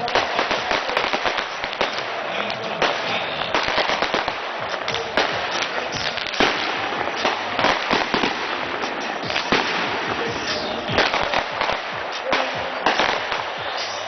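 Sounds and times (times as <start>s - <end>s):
fireworks crackling and banging: 0.0s - 14.0s.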